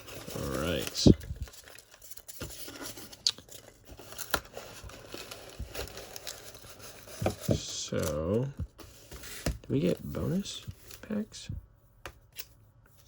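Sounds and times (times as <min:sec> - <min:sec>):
cardboard and plastic crinkling: 0:00.0 - 0:11.3.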